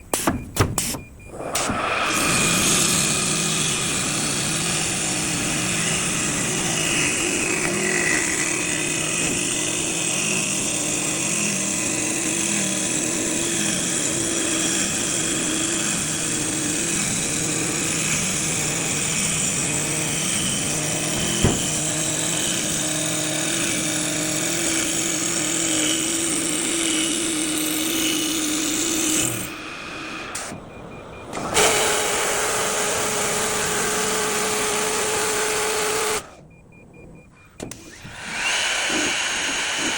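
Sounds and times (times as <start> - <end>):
wood lathe cutting wood: 1.3 - 36.3, 37.6 - 39.9.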